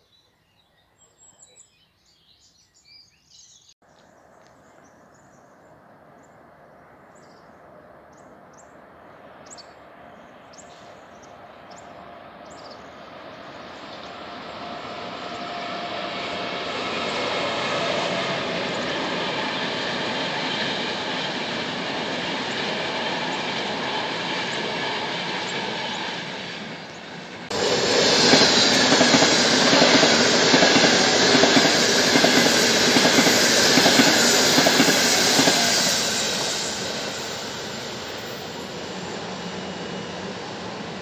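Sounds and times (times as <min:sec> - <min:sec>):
train rushing through station: 0:05.0 - 0:41.0
passenger train rolling past: 0:05.6 - 0:41.0.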